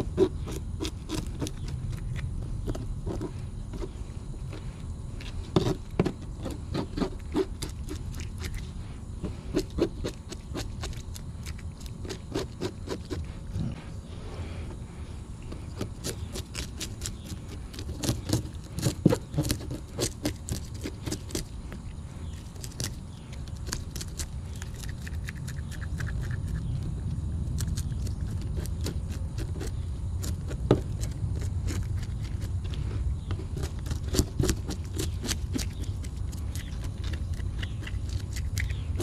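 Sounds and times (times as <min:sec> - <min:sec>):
steady low rumble: 0:00.0 - 0:18.8, 0:21.4 - 0:39.0.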